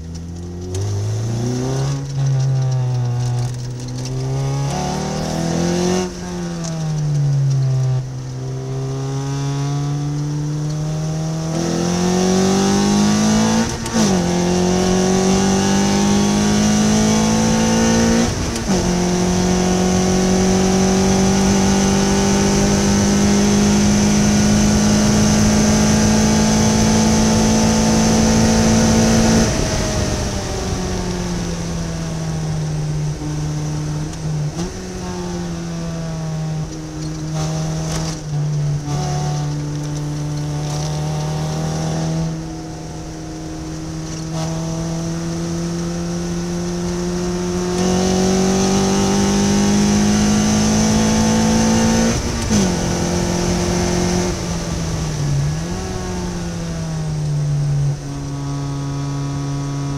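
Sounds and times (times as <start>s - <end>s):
car engine revving and upshifting: 0.0s - 59.9s.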